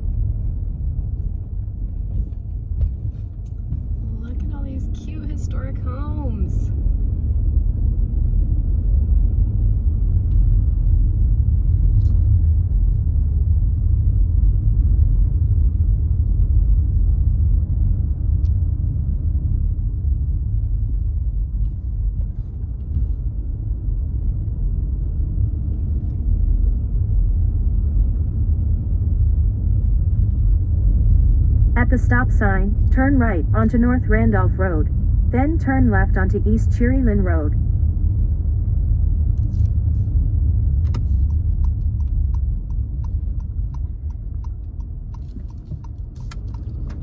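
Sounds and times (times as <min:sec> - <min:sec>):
car interior road rumble: 0:00.0 - 0:47.0.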